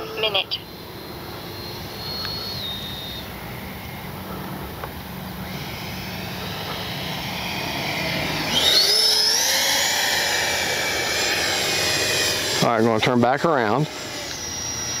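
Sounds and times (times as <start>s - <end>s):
electric ducted fan jet whining: 0.0s - 15.0s.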